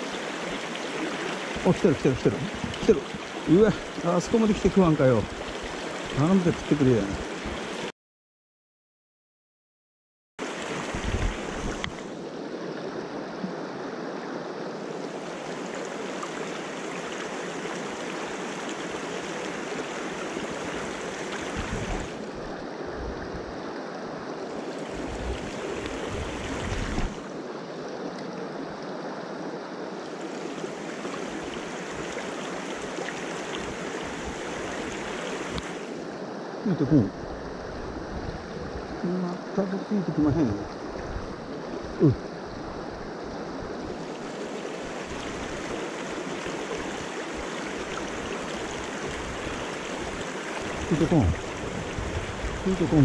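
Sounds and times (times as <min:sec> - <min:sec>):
stream rushing over rocks: 0:00.0 - 0:07.9, 0:10.4 - 0:53.0.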